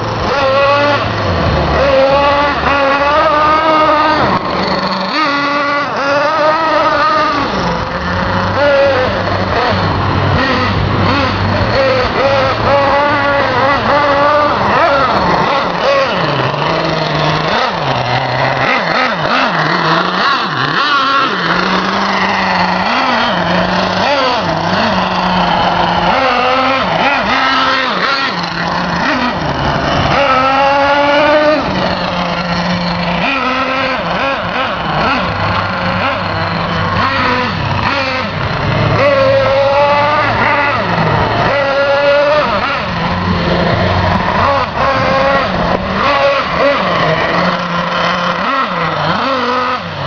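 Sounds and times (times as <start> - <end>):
moped engine revving: 0.0 - 50.0.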